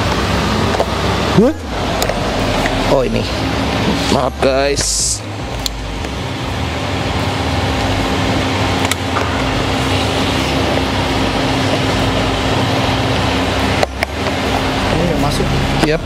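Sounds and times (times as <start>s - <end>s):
low hum: 0.0s - 16.0s
machine running: 0.0s - 16.0s.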